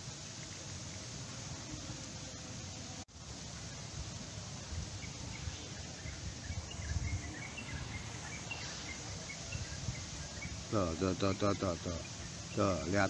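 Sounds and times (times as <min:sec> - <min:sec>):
steady hiss: 0:00.0 - 0:13.0
small birds chirping: 0:00.2 - 0:13.0.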